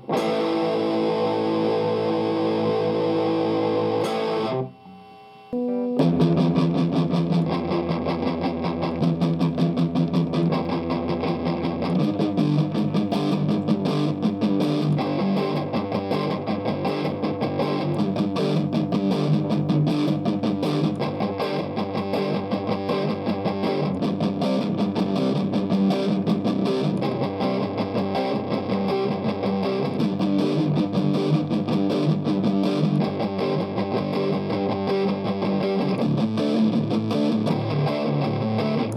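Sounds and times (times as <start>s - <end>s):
distorted electric guitar riff: 0.0s - 38.9s.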